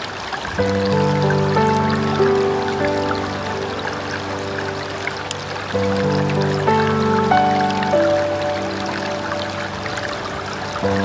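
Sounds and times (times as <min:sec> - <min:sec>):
stream water flowing: 0:00.0 - 0:11.0
soft background music: 0:00.6 - 0:11.0.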